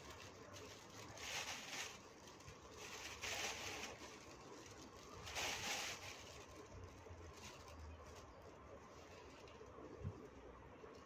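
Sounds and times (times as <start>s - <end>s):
soft rustles of flowers: 0.0s - 11.0s.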